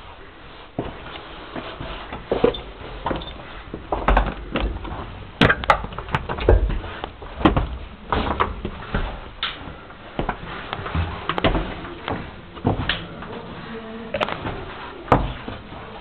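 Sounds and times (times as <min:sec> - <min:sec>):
shuffling footsteps: 0:00.0 - 0:16.0.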